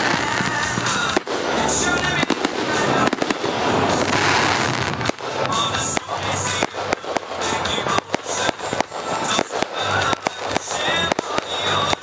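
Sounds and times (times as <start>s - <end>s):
background music: 0.0s - 12.0s
fireworks crackling and banging: 0.0s - 12.0s.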